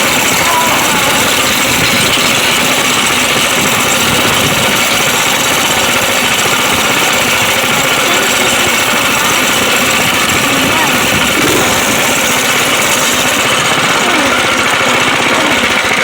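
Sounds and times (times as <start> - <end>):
dirt bike engine rattling: 0.0 - 16.0.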